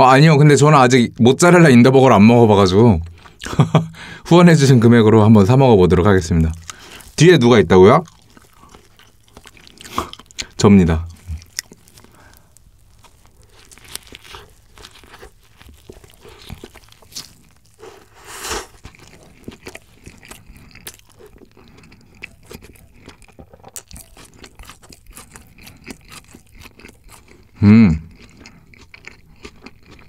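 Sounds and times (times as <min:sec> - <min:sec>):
chewing with crunching: 0:05.9 - 0:30.0.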